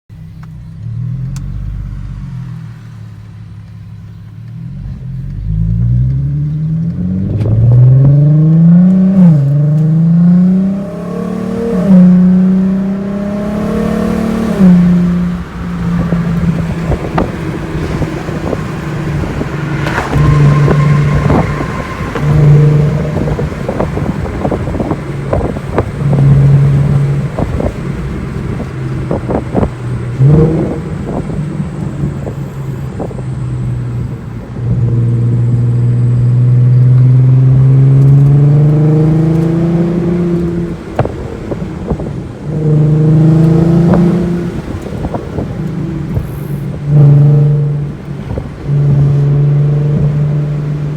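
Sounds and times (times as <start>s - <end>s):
car engine revving through gears: 0.3s - 50.9s.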